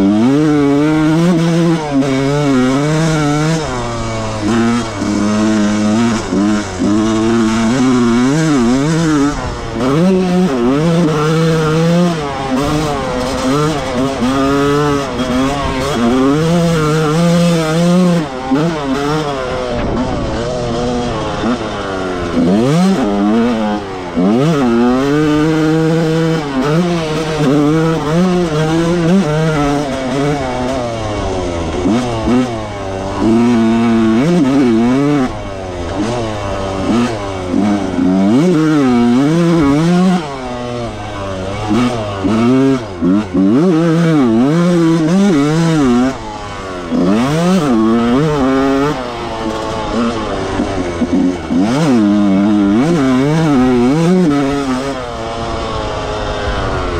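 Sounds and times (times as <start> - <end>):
motocross engine revving: 0.0 - 56.9.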